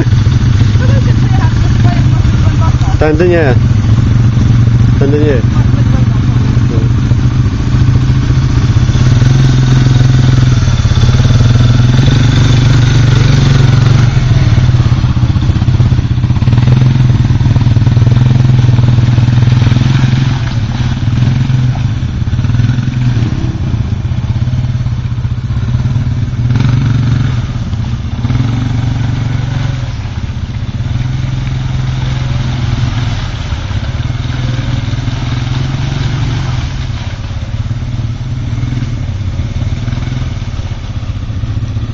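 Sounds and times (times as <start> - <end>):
atv engine running at low revs: 0.0 - 41.9.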